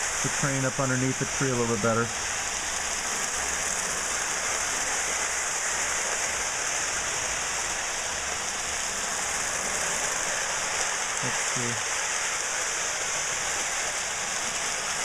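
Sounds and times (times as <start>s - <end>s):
toy train rolling on track: 0.0s - 15.0s.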